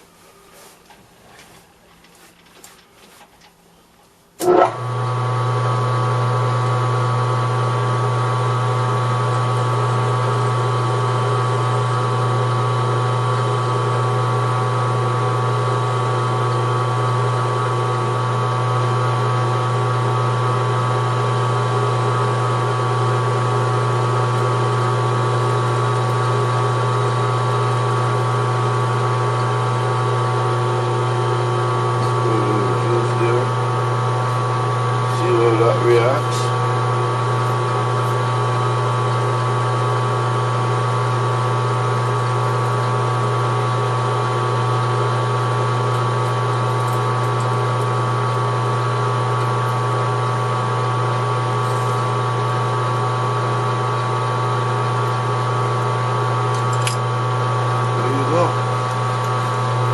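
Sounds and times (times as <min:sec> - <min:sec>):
metal lathe running: 0:04.4 - 0:59.9.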